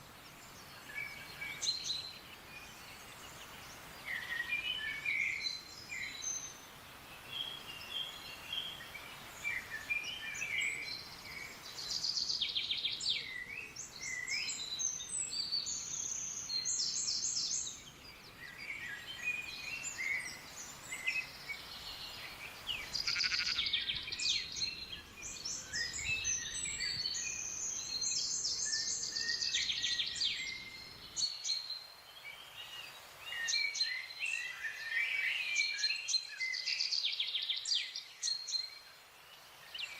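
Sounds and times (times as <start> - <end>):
birds singing and calling: 0.0 - 39.9
faint low background hiss: 0.0 - 39.9.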